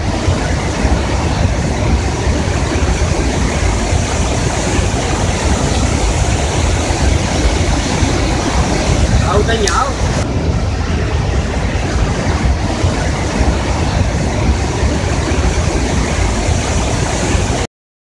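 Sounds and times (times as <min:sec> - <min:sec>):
rushing water with low rumble: 0:00.0 - 0:17.7.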